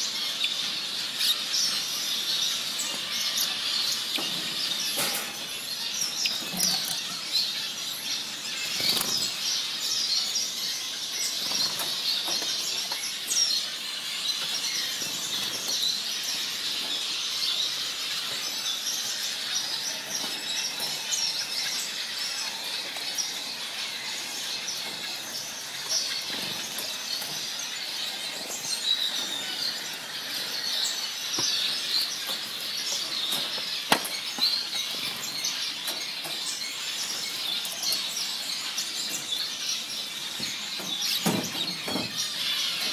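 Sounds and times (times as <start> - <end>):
finches chirping: 0.0 - 42.9.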